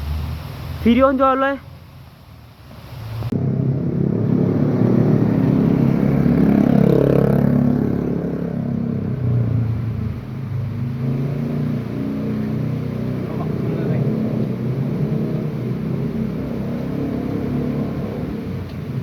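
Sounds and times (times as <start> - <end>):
vehicle engine passing: 2.9 - 19.0.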